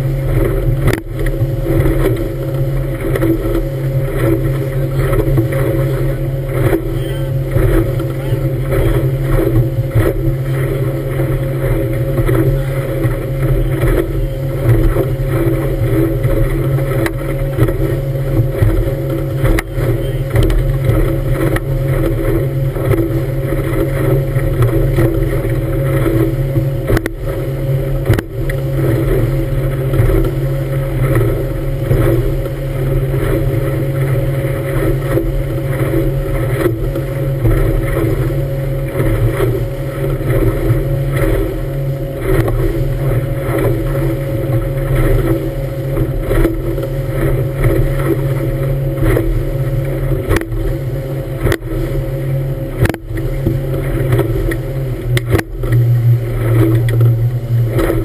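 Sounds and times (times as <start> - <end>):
hull knocking on waves: 0.0 - 58.0
motorboat engine running: 0.0 - 58.0
water rushing along hull: 0.0 - 58.0.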